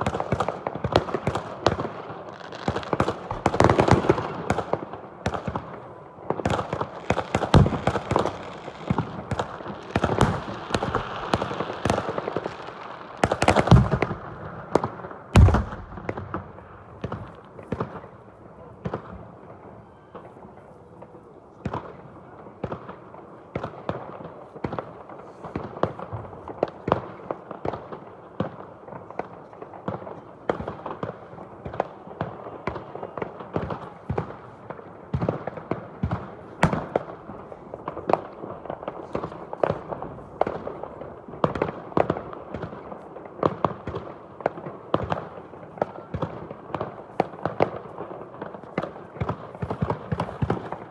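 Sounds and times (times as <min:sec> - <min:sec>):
fireworks bangs and crackles: 0:00.0 - 0:50.9
loud fireworks booms: 0:00.0 - 0:50.9.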